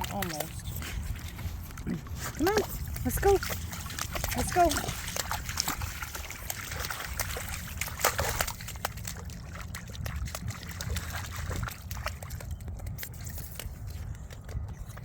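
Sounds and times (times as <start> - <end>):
dog paws splashing in water: 0.0 - 15.0.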